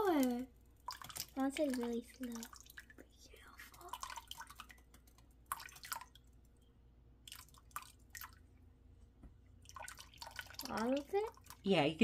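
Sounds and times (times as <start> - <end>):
faint liquid drips into water: 0.0 - 12.0.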